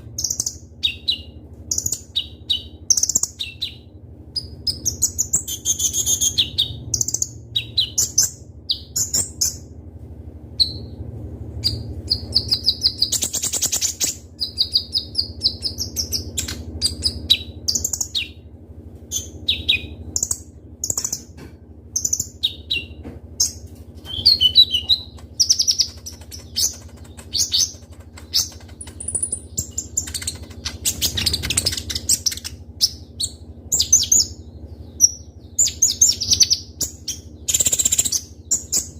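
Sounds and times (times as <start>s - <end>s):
sunbird chirping and trilling: 0.0s - 9.8s, 10.6s - 11.0s, 11.6s - 18.5s, 19.1s - 21.3s, 21.9s - 38.9s
steady low hum: 0.0s - 38.9s.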